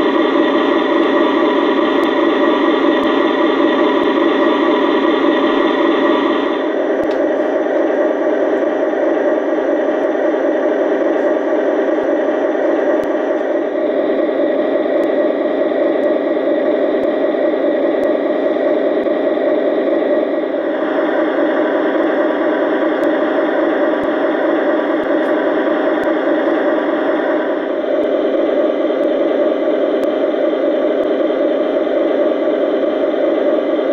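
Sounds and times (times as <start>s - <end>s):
diesel engine chugging: 0.0s - 33.9s.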